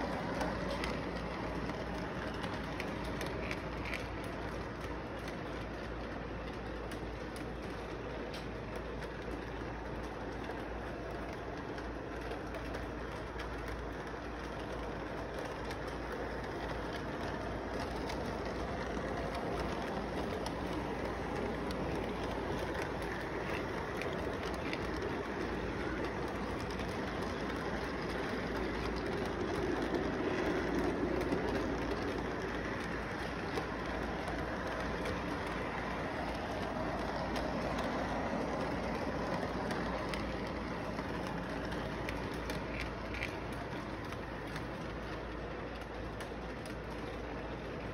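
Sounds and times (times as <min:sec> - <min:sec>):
faint clicks: 0:00.0 - 0:47.9
model train rumbling on track: 0:00.0 - 0:47.9.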